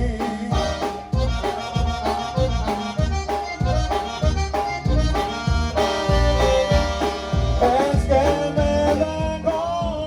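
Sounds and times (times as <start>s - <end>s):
button accordion melody: 0.0s - 10.0s
steady bass beat: 0.0s - 10.0s.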